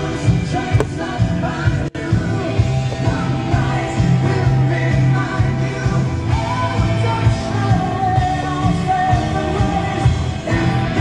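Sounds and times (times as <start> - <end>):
song with heavy bass on car stereo: 0.0 - 11.0.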